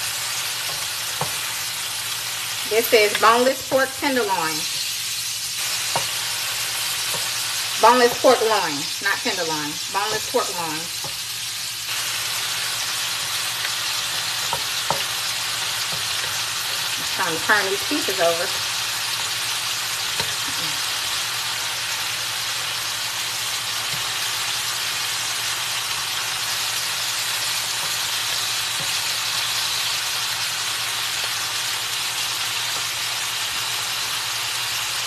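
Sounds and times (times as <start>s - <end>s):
meat sizzling in a wok: 0.0s - 35.0s.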